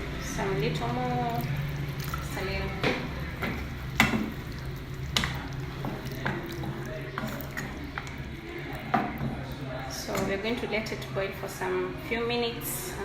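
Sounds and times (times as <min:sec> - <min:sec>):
water pouring into a pot: 0:00.0 - 0:10.8
liquid dripping and squishing: 0:00.0 - 0:11.3.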